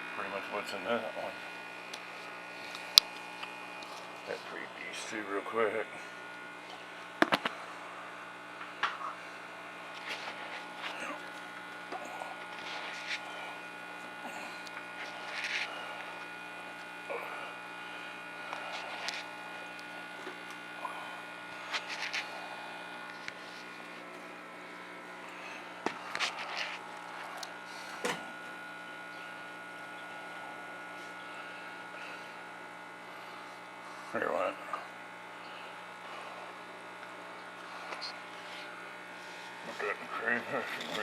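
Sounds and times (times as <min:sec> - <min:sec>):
aquarium equipment humming: 0:00.0 - 0:41.0.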